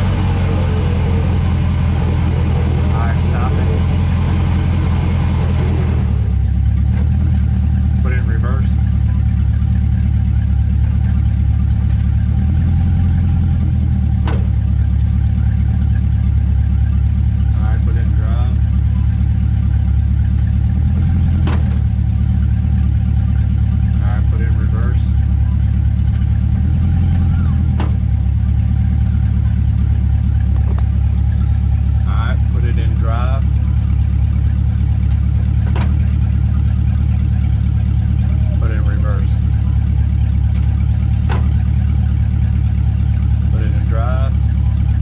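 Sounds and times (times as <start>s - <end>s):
truck engine rumbling: 0.0s - 45.0s.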